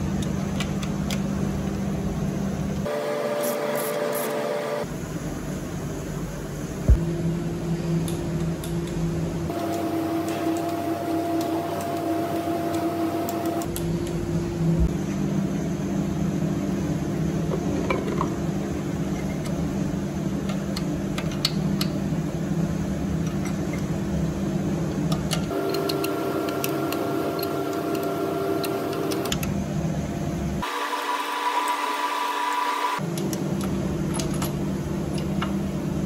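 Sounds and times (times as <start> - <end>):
workshop hum: 0.0 - 36.0.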